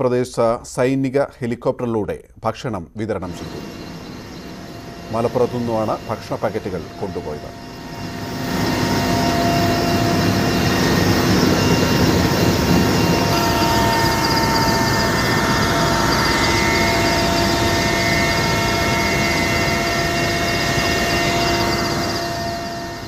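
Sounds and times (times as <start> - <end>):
high whine: 3.2 - 23.0
helicopter engine and rotor noise: 3.3 - 23.0.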